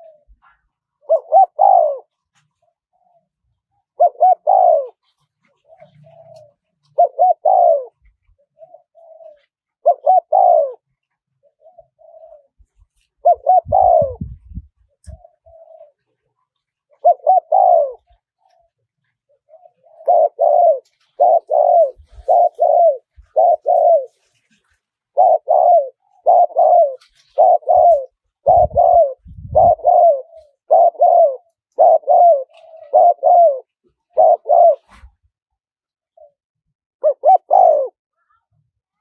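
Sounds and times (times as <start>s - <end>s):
dove cooing: 0.0s - 35.1s, 37.0s - 38.3s.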